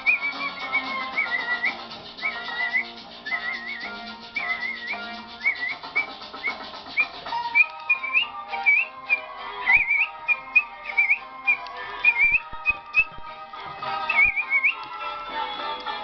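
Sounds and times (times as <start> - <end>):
person whistling a tune: 0.0 - 13.3, 14.0 - 14.9.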